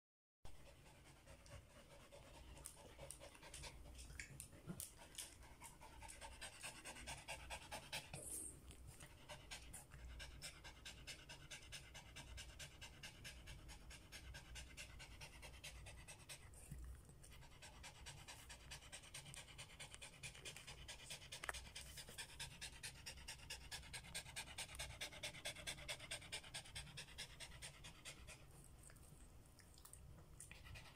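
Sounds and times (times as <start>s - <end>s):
dog panting: 0.6s - 29.0s, 30.4s - 30.9s.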